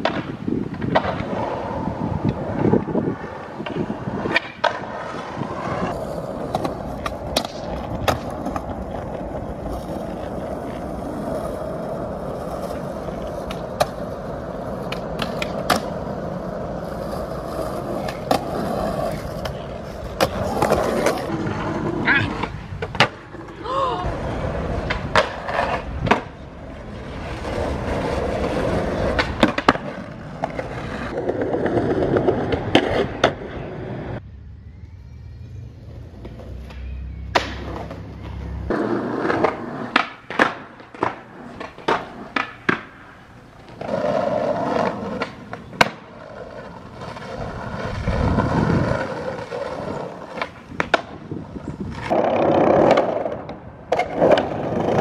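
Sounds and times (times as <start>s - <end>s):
skateboard clacking: 0.0s - 34.2s, 35.9s - 55.0s
skateboard wheels rolling on concrete: 0.0s - 55.0s.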